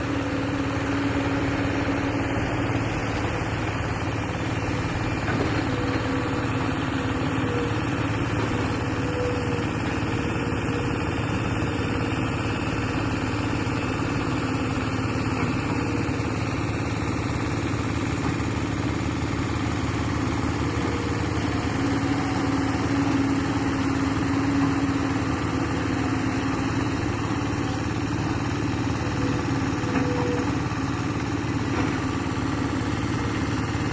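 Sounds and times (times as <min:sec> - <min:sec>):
construction machine engine running: 0:00.0 - 0:33.9.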